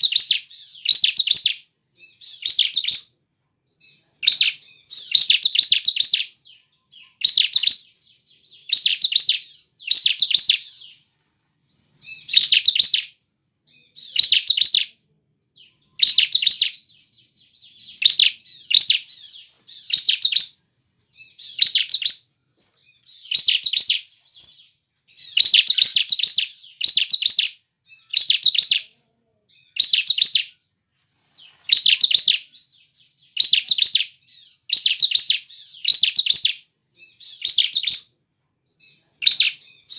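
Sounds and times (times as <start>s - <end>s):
bird singing trilled notes: 0.0s - 3.1s, 3.7s - 11.0s, 11.8s - 38.1s, 38.7s - 39.9s.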